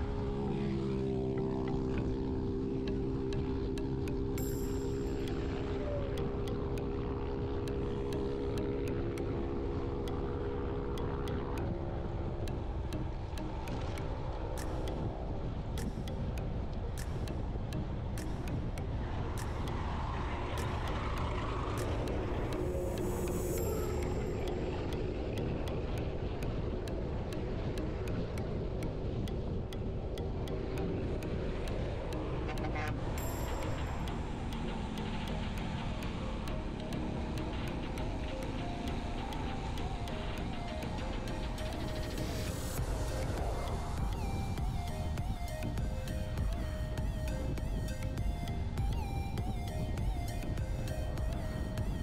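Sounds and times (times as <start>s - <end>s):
faint regular ticking: 0.0s - 52.0s
vehicle engine humming: 0.0s - 52.0s
wind rushing over microphone: 0.0s - 52.0s
faint rapid clicks: 1.3s - 52.0s.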